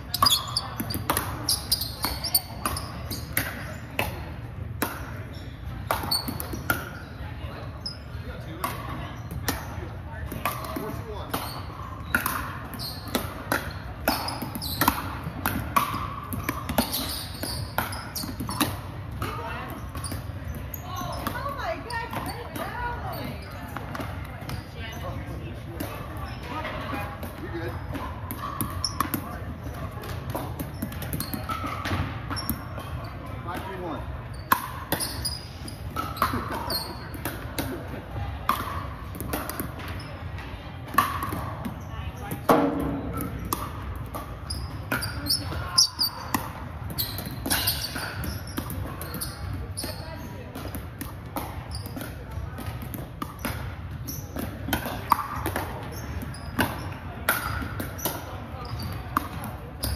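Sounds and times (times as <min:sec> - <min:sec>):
ball bouncing on hardwood court: 0:00.0 - 0:07.1, 0:07.8 - 0:59.9.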